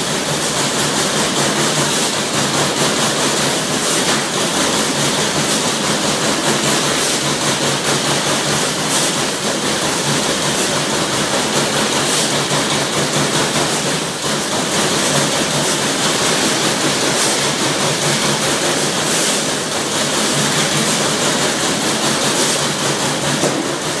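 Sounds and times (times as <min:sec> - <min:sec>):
punch press punching metal sheet: 0:00.3 - 0:24.0.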